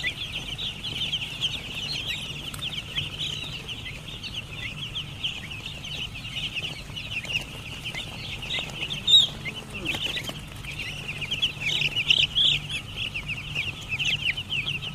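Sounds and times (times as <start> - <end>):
chicks peeping: 0.0 - 14.9
faint low hum: 0.0 - 14.9.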